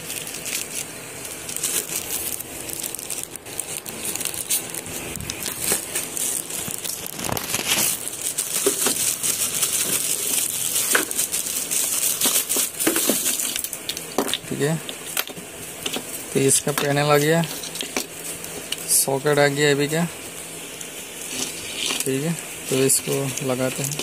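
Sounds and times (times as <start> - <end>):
plastic bag crinkling: 0.0 - 24.0.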